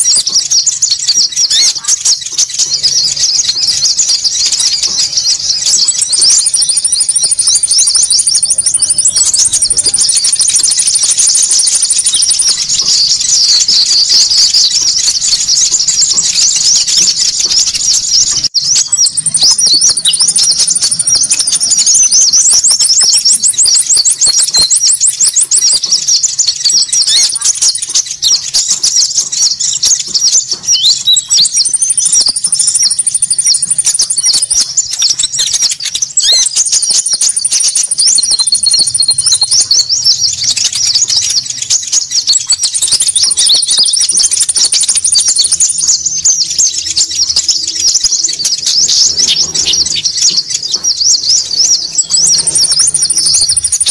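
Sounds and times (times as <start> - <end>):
birds chattering and chirping: 0.0 - 53.9
high bird trill: 0.0 - 53.9.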